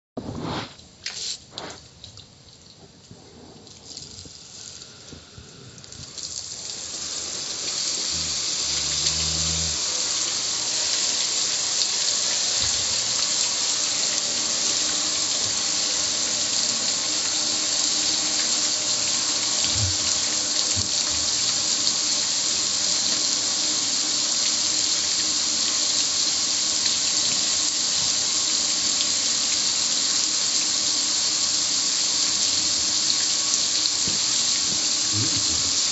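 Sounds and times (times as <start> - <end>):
hose water spraying on metal: 0.4 - 2.0, 3.0 - 35.9.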